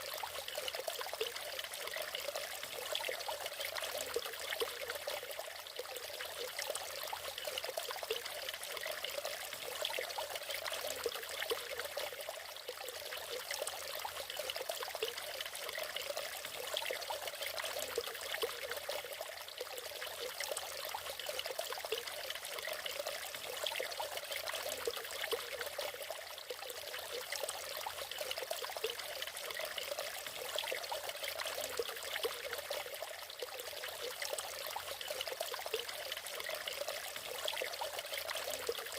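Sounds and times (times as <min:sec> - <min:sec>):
waterfall splashing and trickling: 0:00.0 - 0:38.9.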